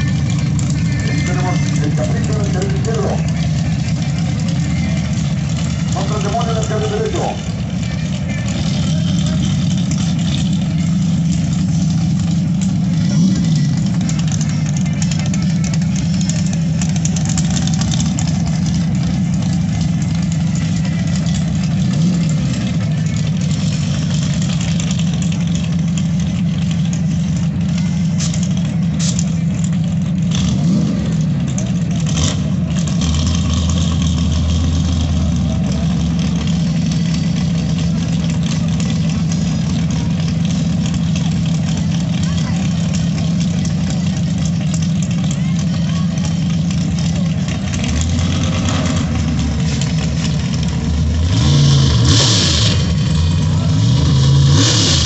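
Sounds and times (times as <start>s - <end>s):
engine revs: 0.0s - 55.0s
vehicle engines idling loudly: 0.0s - 55.0s.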